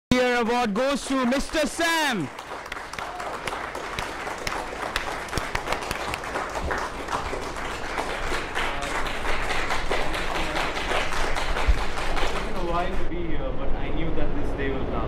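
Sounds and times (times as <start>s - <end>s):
people clapping: 0.7s - 13.2s.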